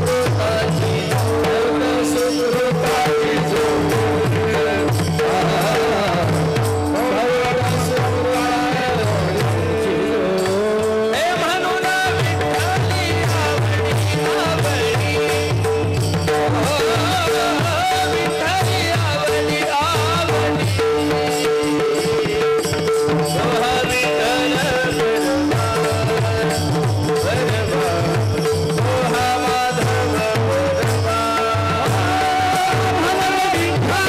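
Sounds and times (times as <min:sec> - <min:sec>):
hand drum beat: 0:00.0 - 0:34.0
harmonium drone: 0:00.0 - 0:34.0
person singing ornamented melody: 0:00.0 - 0:34.0.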